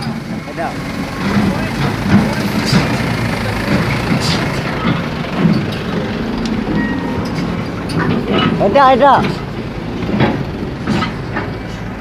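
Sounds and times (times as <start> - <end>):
diesel machinery running: 0.0 - 12.0.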